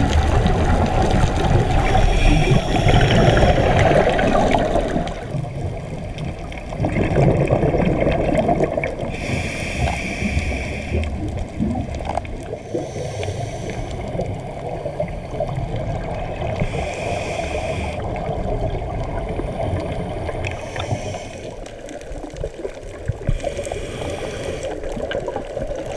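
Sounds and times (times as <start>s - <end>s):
underwater rush of water: 0.0s - 25.9s.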